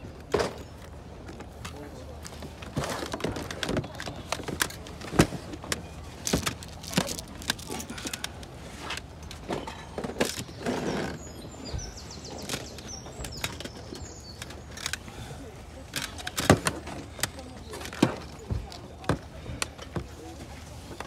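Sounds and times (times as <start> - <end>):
clicks and knocks of handling: 0.2 - 15.2, 15.8 - 21.0.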